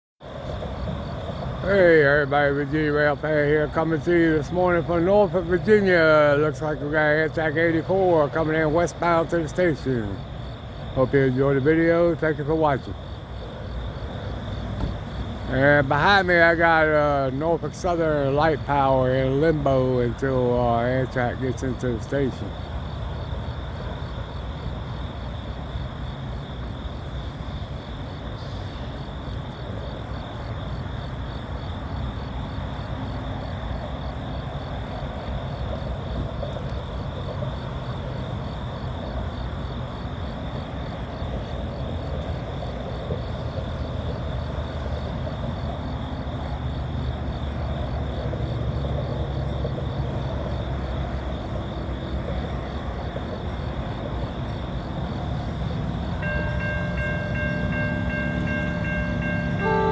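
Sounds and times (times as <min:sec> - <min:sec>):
diesel locomotives idling: 0:00.2 - 0:59.9.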